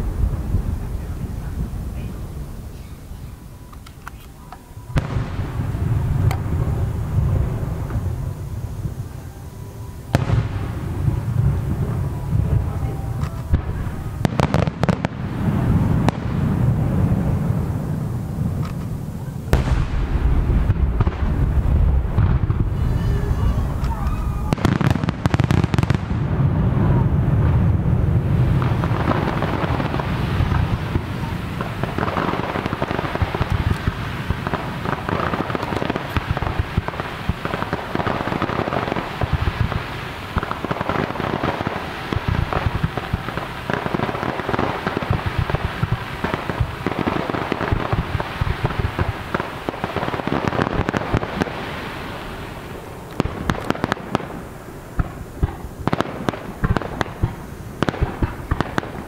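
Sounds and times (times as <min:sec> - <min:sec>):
deep firework boom: 0:00.0 - 0:03.4, 0:05.0 - 0:59.0
fireworks crackling: 0:00.0 - 0:59.0.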